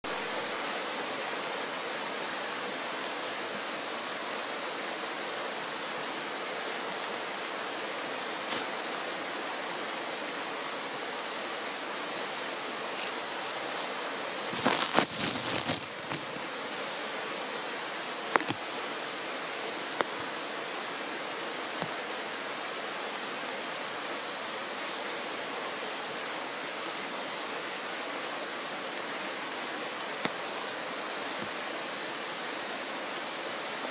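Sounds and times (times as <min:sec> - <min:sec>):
stream rushing over stones: 0:00.0 - 0:33.9.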